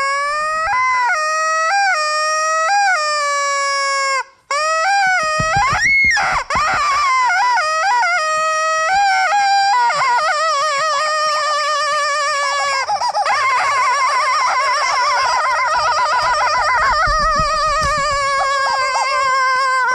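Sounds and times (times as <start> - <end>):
rubber chicken toys squawking: 0.0 - 19.9.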